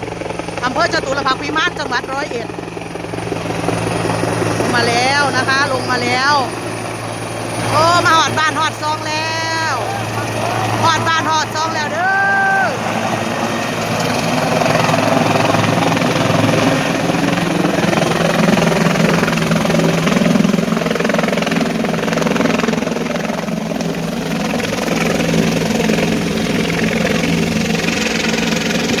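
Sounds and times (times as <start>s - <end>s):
helicopter rotor and turbine: 0.0s - 29.0s.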